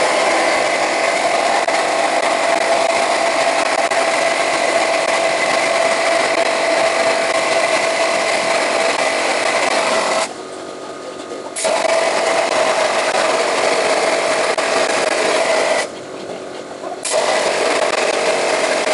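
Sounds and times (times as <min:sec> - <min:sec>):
constant whine: 0:00.0 - 0:18.9.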